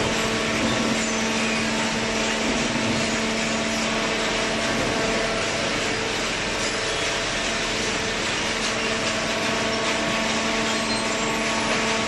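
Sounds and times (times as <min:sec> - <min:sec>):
baler machine humming: 0:00.0 - 0:12.0.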